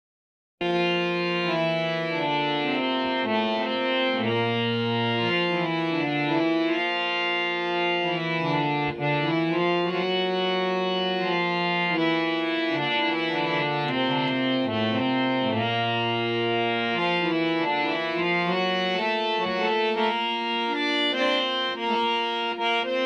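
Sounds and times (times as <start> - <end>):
harmonium melody: 0.6 - 23.0.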